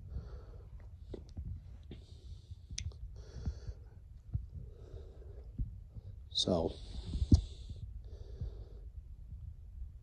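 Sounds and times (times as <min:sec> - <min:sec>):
low steady rumble: 0:00.0 - 0:10.0
soft breaths: 0:00.0 - 0:10.0.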